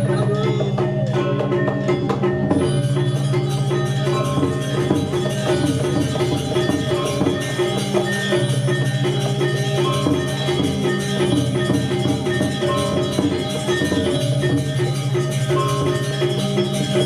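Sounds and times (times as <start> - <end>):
drums: 0.0 - 17.0
metallophones ringing fast figures: 0.0 - 17.0.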